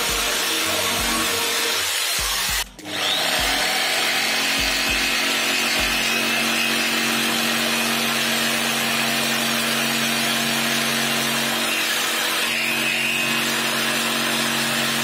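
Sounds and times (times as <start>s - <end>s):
jigsaw sawing through plywood: 0.0s - 15.0s.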